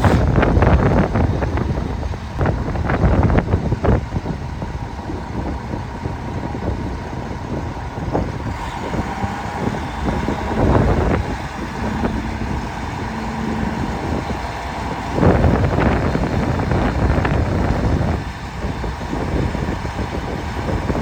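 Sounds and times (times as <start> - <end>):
truck diesel engine idling: 0.0 - 21.0
wind on microphone: 0.0 - 21.0.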